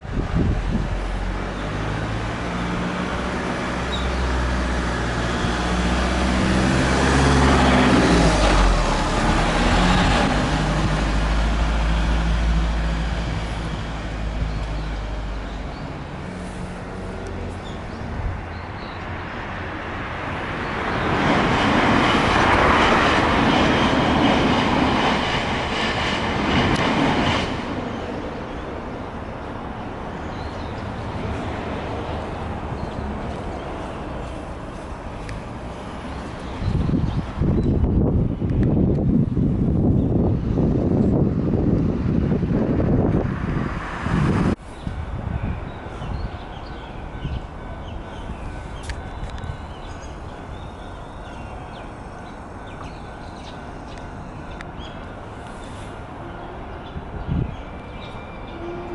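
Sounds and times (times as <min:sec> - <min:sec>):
vehicle engines humming: 0:00.1 - 0:25.7, 0:26.3 - 0:58.9
electric train passing: 0:00.1 - 0:58.9.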